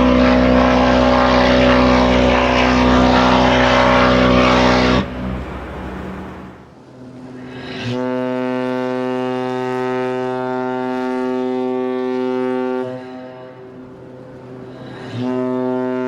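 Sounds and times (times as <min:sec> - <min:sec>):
ship's horn blast: 0:00.0 - 0:16.0.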